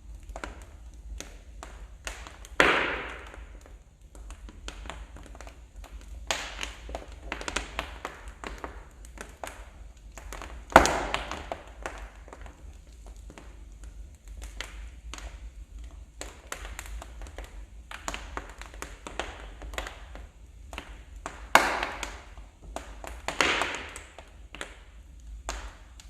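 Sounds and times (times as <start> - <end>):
fireplace fire crackling: 0.0 - 26.0
loud fire pops: 0.2 - 26.0.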